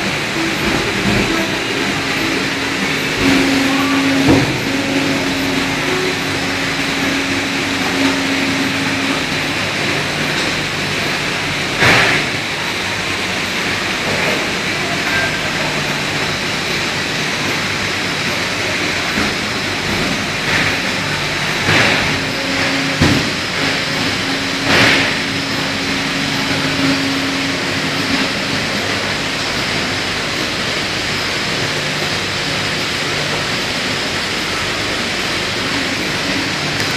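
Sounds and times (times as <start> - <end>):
industrial machinery noise: 0.0 - 36.9
steady hum: 0.0 - 36.9.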